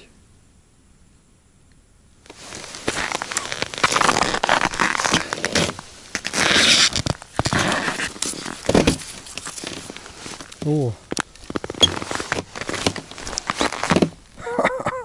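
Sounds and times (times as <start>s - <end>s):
clothing and snow rustling crunching: 2.3s - 14.4s.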